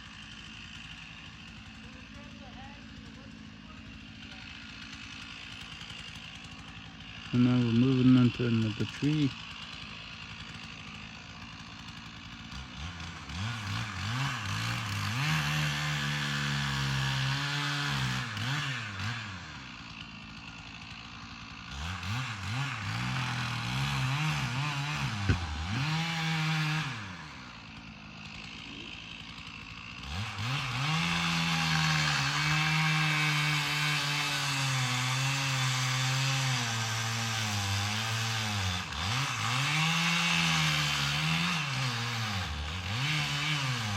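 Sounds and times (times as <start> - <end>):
chainsaw engine revving: 0.0 - 43.9.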